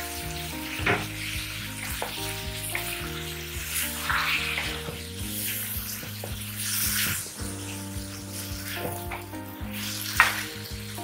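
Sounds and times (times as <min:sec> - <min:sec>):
vegetables sizzling in oil: 0:00.0 - 0:09.0
soft background music: 0:00.0 - 0:11.0.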